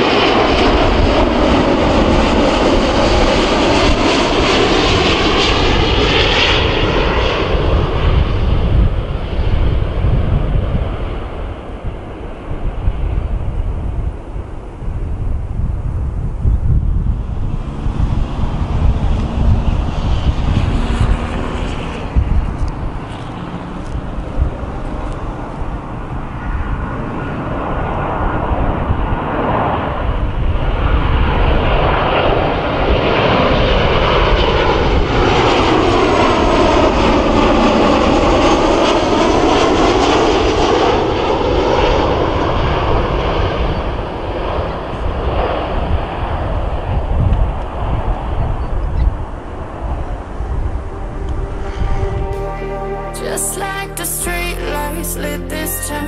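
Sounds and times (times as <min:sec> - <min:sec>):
wind rumble on microphone: 0:00.0 - 0:40.6, 0:41.4 - 0:52.4
jet plane passing overhead: 0:00.0 - 0:53.2.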